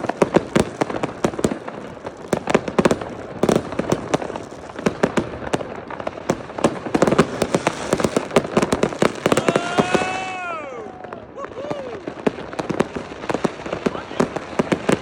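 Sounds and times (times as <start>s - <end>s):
firecrackers banging and crackling: 0.0s - 15.0s
whistling firework: 0.0s - 15.0s.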